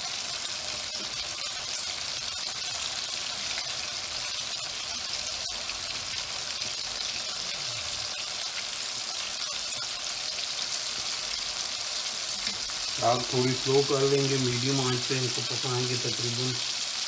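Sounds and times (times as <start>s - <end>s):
oil sizzling while deep-frying: 0.0s - 17.0s.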